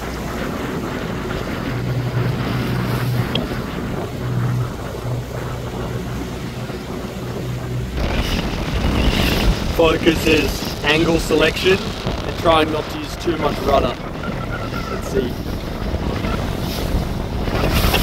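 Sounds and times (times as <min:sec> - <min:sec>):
outboard engine humming: 0:00.0 - 0:18.0
water noise around hull: 0:00.0 - 0:18.0
wind on microphone: 0:00.0 - 0:18.0.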